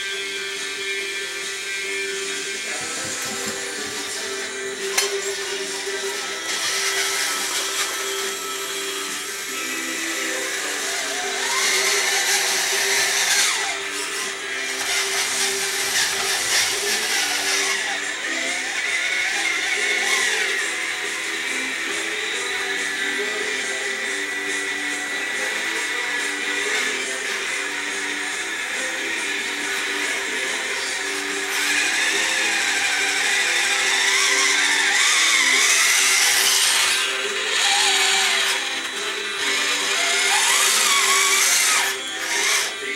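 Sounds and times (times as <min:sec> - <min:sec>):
small electric motor whining: 0:00.0 - 0:42.9.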